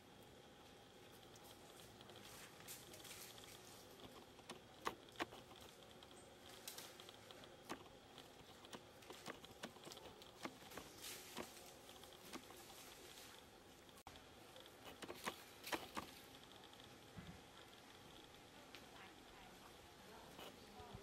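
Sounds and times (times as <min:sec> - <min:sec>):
faint steady hum: 0:00.0 - 0:21.0
sharp clicks and crackles: 0:01.2 - 0:13.0, 0:13.8 - 0:19.0.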